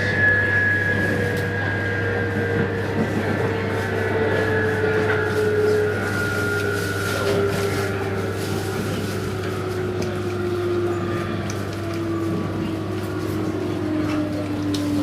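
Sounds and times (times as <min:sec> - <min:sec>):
rail running noise: 0:00.0 - 0:15.0
train traction motors whining: 0:00.0 - 0:15.0.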